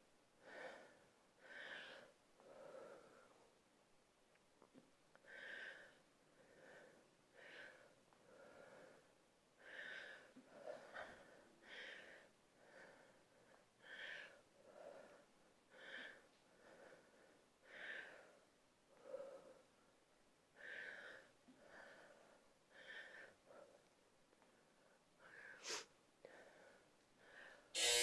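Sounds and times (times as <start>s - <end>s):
woman breathing rhythmically: 0.0s - 3.8s, 4.9s - 27.8s.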